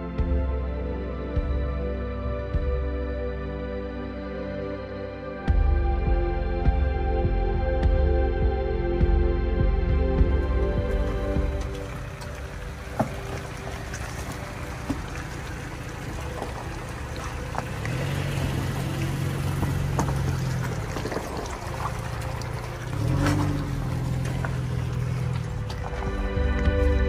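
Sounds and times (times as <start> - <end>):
pickup engine running: 4.4 - 27.0.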